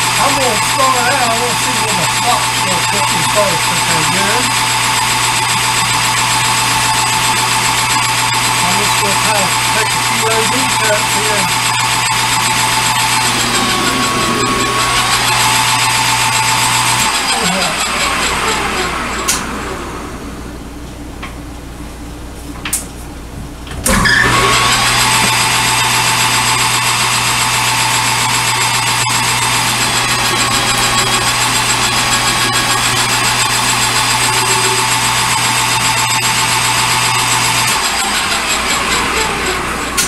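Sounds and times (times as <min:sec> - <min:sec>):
machine-tool motor running: 0:00.0 - 0:20.2, 0:23.8 - 0:40.0.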